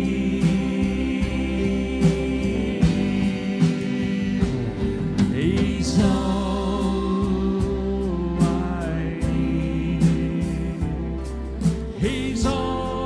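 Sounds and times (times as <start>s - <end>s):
singing: 0.0s - 11.0s, 11.9s - 13.0s
drum kit beat: 0.0s - 13.0s
worship band playing gospel song: 0.0s - 13.0s.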